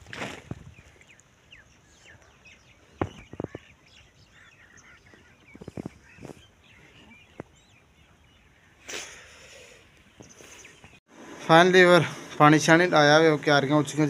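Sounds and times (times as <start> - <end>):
birds chirping: 0.2 - 14.0.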